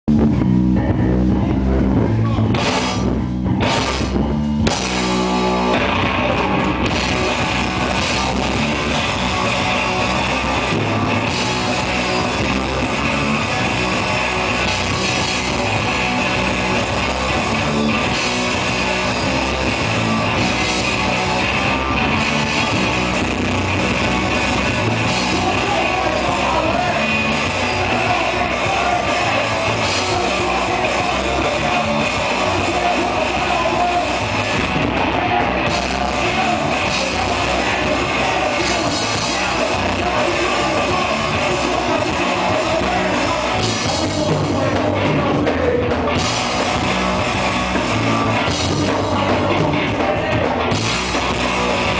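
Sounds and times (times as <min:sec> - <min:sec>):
rock band playing: 0:00.1 - 0:51.9.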